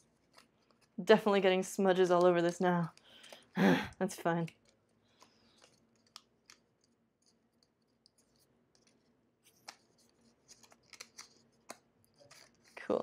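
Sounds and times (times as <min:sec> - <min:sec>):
stiff paper being folded: 0:00.0 - 0:13.0.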